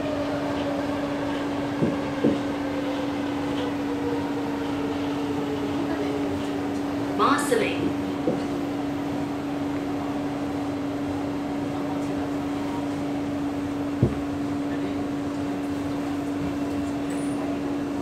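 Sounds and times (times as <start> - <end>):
metro train rumbling in tunnel: 0.0 - 18.0.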